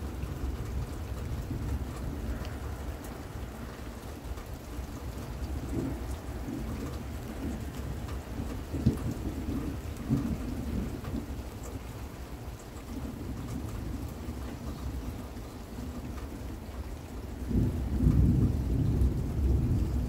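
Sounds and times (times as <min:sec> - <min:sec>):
thunder rumbling: 0:00.0 - 0:12.2, 0:12.8 - 0:20.0
steady rain: 0:00.0 - 0:20.0.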